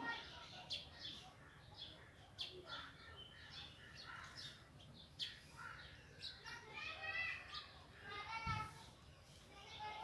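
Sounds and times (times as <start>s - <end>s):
songbirds chirping: 0.0s - 8.2s.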